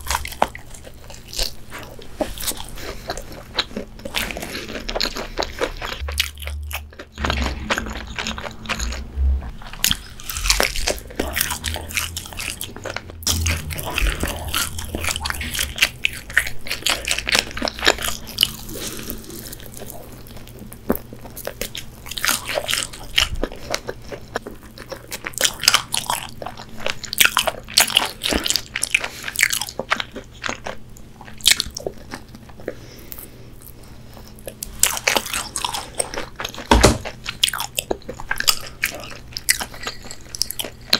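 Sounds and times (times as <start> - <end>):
chewing crispy fried chicken: 0.0 - 40.9.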